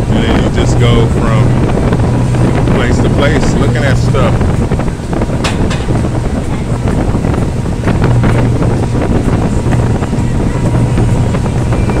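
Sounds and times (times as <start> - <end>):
boat engine droning: 0.0 - 12.0
wind buffeting microphone: 0.0 - 12.0.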